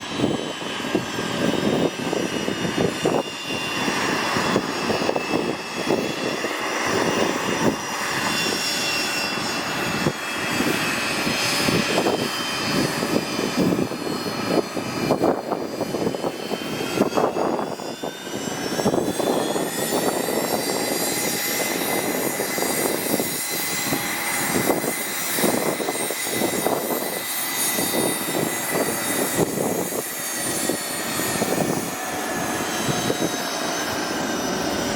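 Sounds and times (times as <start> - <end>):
propeller plane engine: 0.0 - 34.9.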